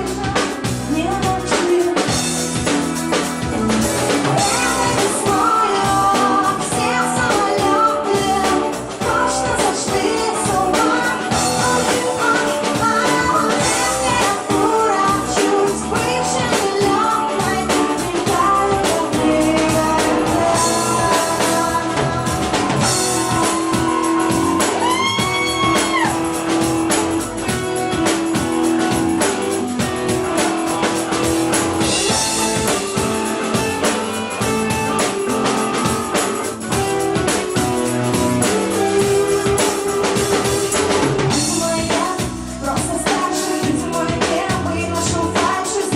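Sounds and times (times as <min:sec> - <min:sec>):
drum kit: 0:00.0 - 0:45.9
electric guitars: 0:00.0 - 0:45.9
person singing: 0:03.6 - 0:36.2, 0:36.9 - 0:45.9.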